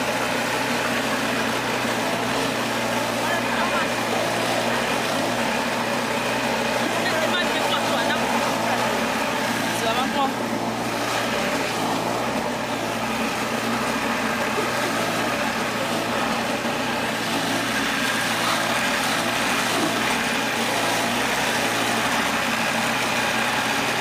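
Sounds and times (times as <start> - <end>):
grating machine grinding roots: 0.0 - 24.0
small engine running: 0.0 - 24.0.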